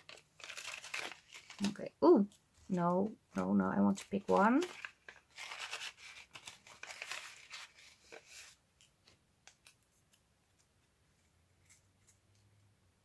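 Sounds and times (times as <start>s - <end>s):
paper rustling and crinkling: 0.0s - 10.9s.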